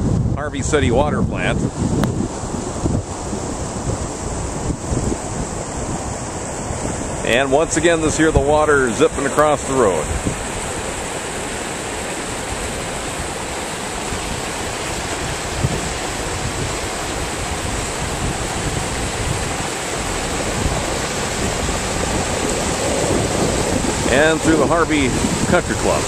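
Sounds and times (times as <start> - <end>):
floodwater rushing across road: 0.6 - 26.0.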